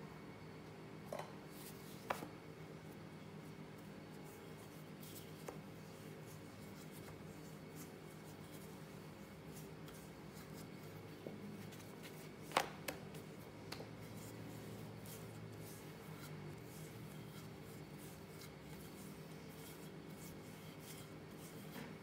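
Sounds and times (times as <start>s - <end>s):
steady low hum: 0.0s - 22.0s
dough rubbing and pressing: 1.5s - 22.0s.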